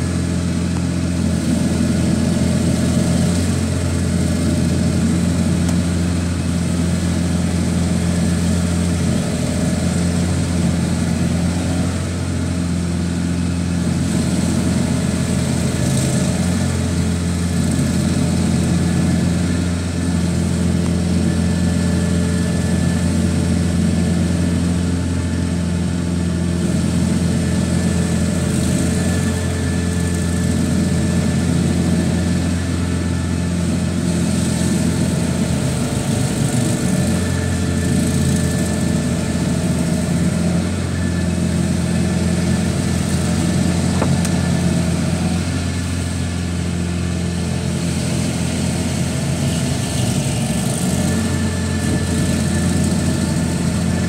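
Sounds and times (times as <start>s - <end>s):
stump grinder engine running: 0.0s - 54.0s.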